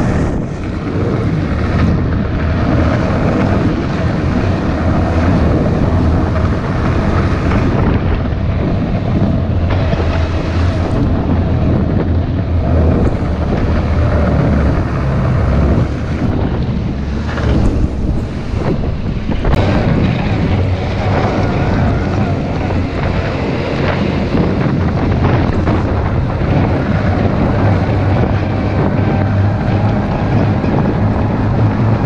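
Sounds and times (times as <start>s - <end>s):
snowmobile engine running: 0.0s - 32.0s
wind buffeting microphone: 0.0s - 32.0s.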